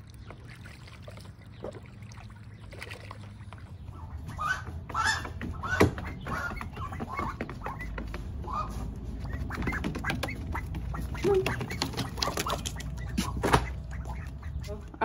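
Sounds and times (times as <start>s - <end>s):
ducks quacking: 2.5s - 15.0s.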